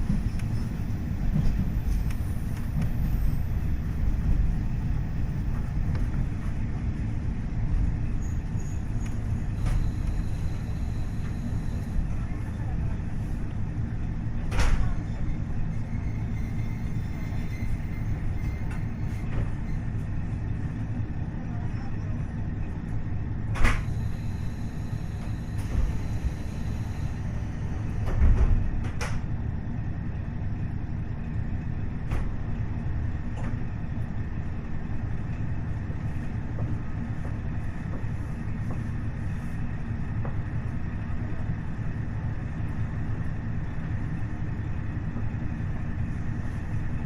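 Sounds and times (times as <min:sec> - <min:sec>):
diesel railcar rumble: 0:00.0 - 0:47.0.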